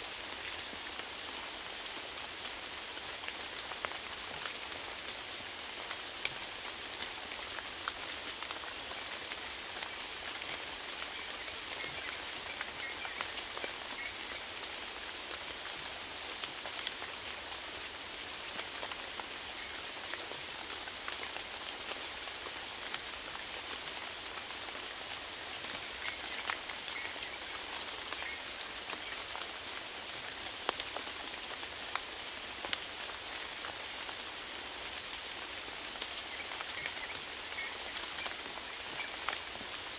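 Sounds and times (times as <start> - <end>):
rain drops ticking on surface: 0.0 - 39.9
steady rain hiss: 0.0 - 39.9.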